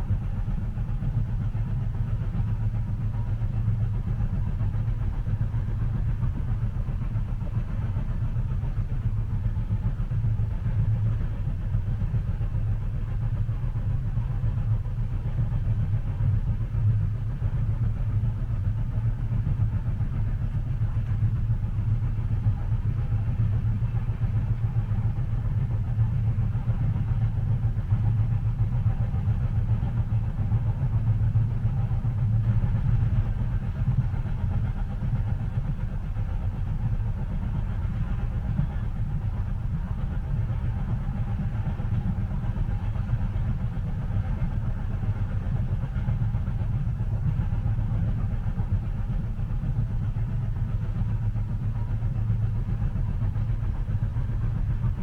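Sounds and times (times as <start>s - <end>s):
train rumbling inside passenger car: 0.0s - 55.0s.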